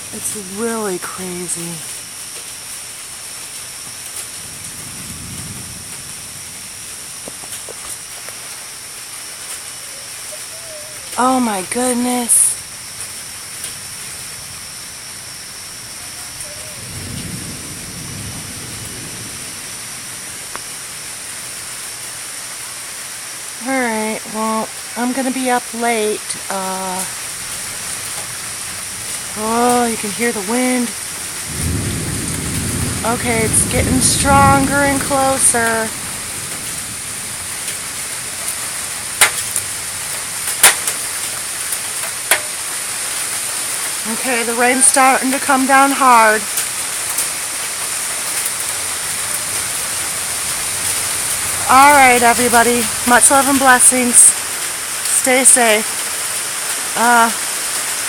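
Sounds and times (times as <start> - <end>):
rain hissing: 0.0 - 58.0
thunder rumbling: 3.7 - 22.4, 23.5 - 57.6.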